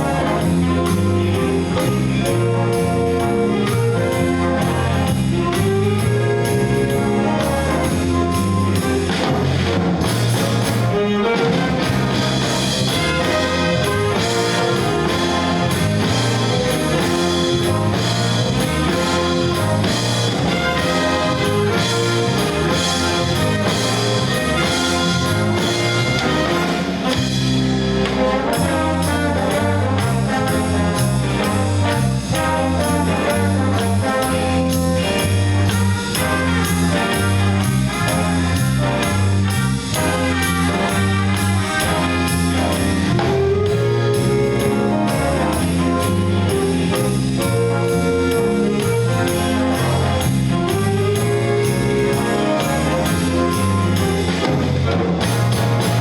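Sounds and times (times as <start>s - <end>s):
jazz band playing: 0.0s - 56.0s.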